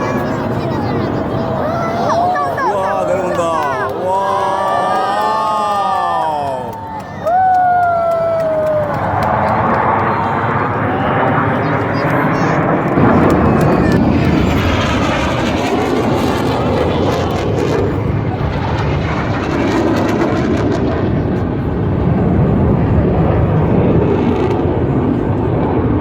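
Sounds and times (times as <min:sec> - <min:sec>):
jet engines roaring overhead: 0:00.0 - 0:26.0.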